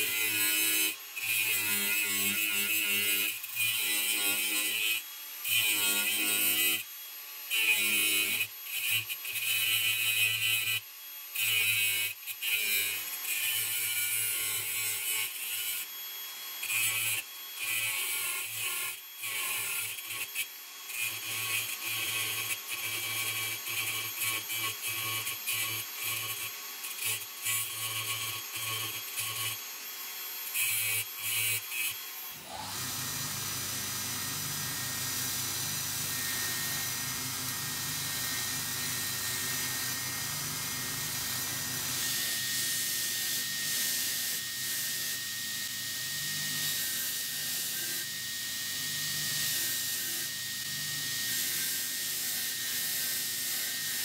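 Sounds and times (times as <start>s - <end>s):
power tool motor hum: 0.0s - 54.0s.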